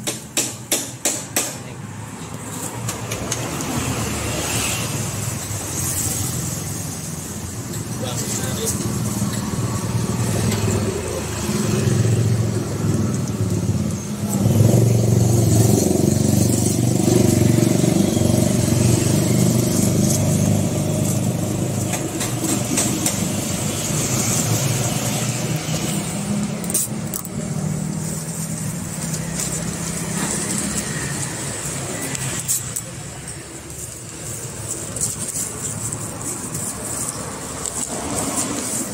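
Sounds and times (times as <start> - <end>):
motor vehicle traffic: 0.0 - 38.9.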